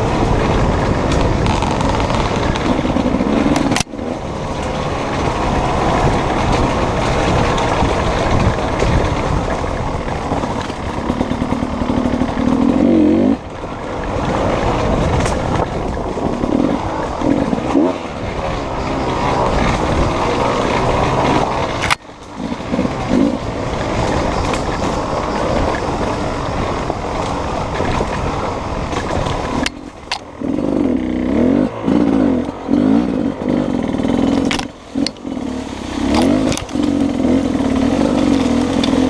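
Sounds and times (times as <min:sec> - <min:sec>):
bike rattling on rough ground: 0:00.0 - 0:39.0
two-stroke motorcycle engine: 0:00.0 - 0:39.0.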